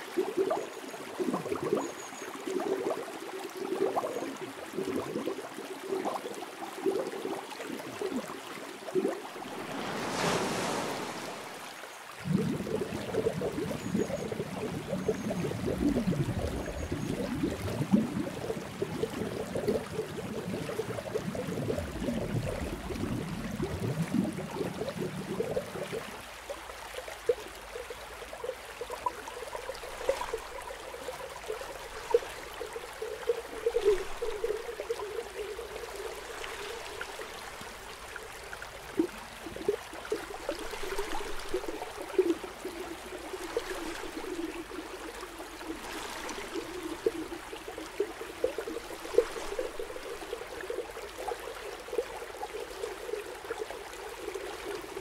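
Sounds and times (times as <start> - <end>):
aquarium water bubbling: 0.0 - 55.0.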